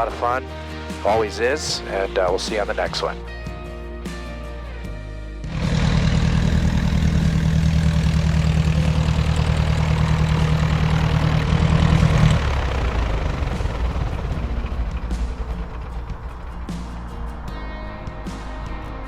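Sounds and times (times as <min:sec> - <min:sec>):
light airplane engine and propeller: 0:00.0 - 0:18.9.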